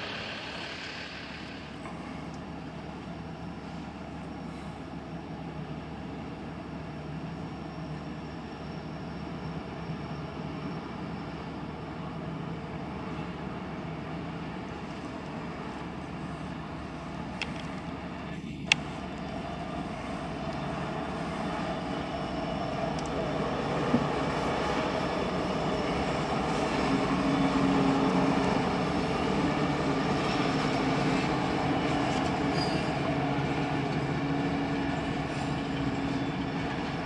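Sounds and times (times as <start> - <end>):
diesel locomotive rumble: 0.0 - 37.0.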